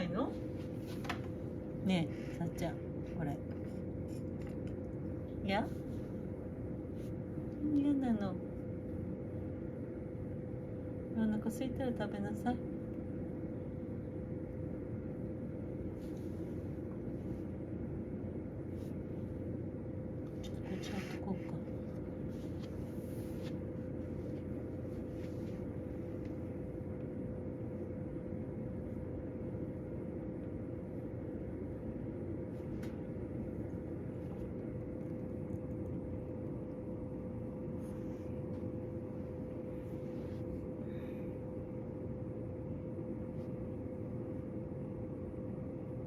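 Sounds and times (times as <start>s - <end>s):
space heater humming: 0.0s - 46.0s.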